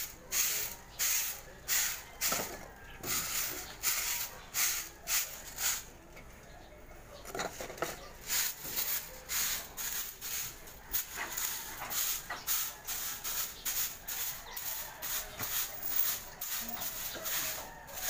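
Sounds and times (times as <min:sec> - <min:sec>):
broom sweeping concrete: 0:00.0 - 0:06.0, 0:07.5 - 0:18.0.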